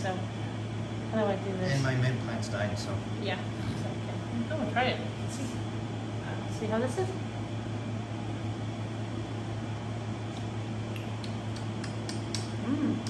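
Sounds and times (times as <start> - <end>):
low hum with faint hiss: 0.0 - 13.0.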